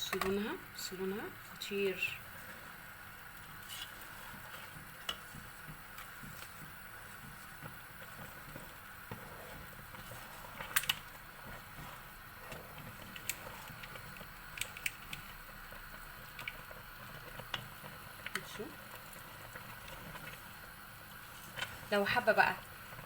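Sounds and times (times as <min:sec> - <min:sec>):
jam bubbling in a pot: 0:00.0 - 0:23.0.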